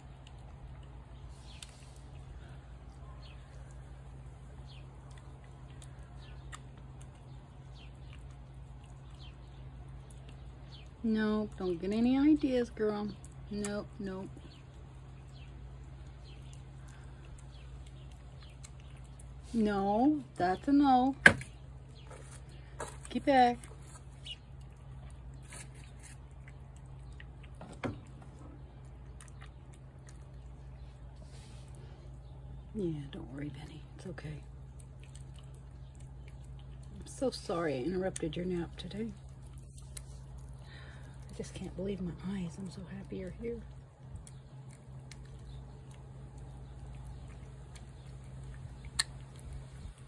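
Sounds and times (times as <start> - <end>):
cat chewing food: 0.0 - 11.0, 14.4 - 19.6, 23.6 - 32.7, 33.5 - 50.0
steady low hum: 0.0 - 50.0.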